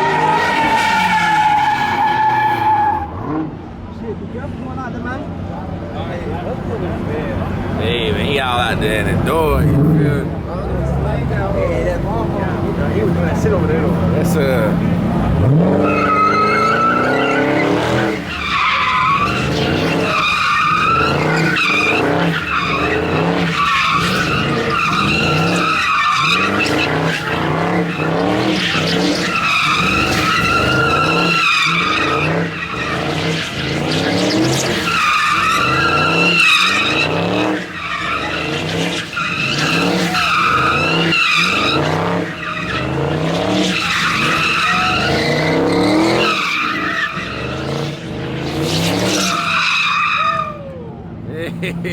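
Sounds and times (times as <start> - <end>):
car engine revving: 0.0 - 50.5
tires squealing: 0.0 - 51.9.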